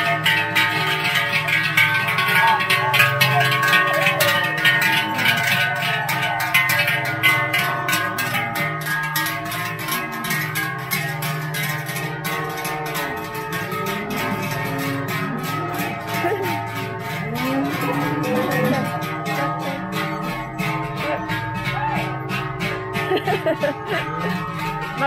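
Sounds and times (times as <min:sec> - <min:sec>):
cowbells clanging: 0:00.0 - 0:25.0.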